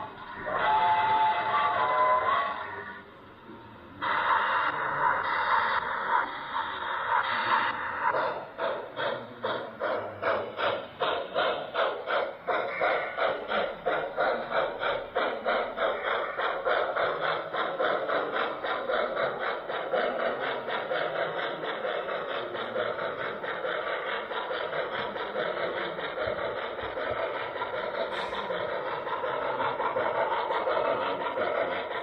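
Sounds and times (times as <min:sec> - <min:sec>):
model train running: 0:00.0 - 0:32.0.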